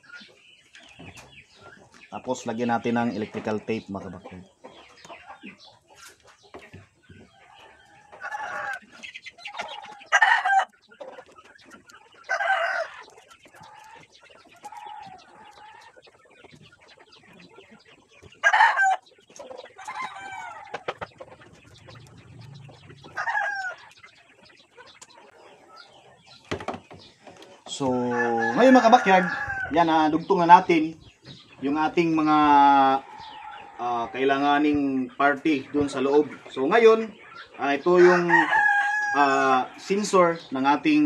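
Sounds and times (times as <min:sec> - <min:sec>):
chickens clucking and calling: 0:00.0 - 0:41.0.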